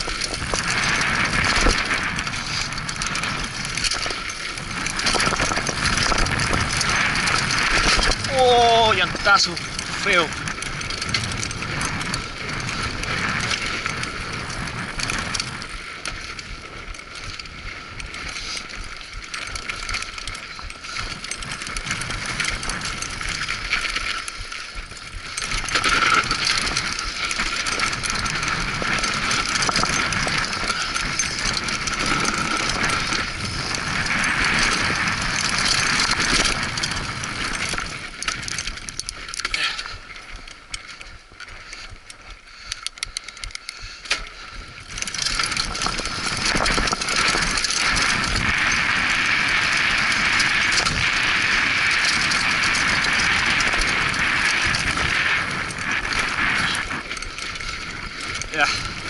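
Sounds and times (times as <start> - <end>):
bike tyres on gravel: 0.0 - 59.0
chain and frame rattling: 0.0 - 59.0.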